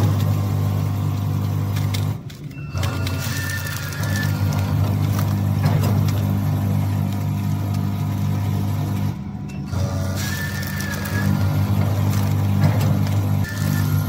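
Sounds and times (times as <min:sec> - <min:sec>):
packing machine motor hum: 0:00.0 - 0:14.0.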